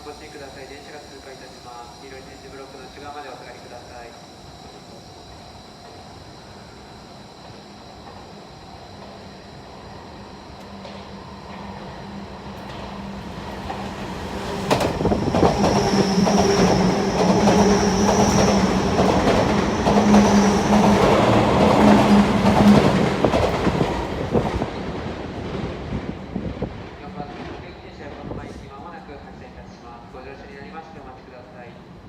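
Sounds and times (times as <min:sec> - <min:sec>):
train passing at speed: 0:00.0 - 0:32.0.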